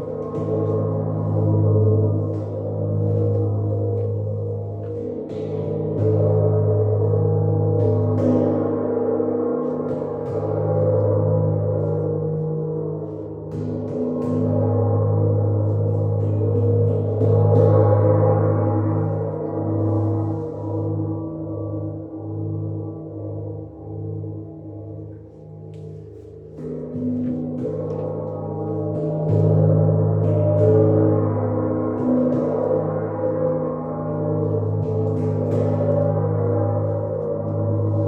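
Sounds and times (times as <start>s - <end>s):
gong-like metal instruments ringing: 0.0s - 38.0s.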